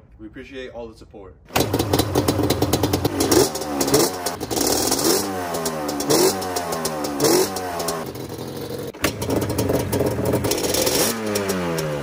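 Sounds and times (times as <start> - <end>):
two-stroke engine revving: 1.5 - 12.0.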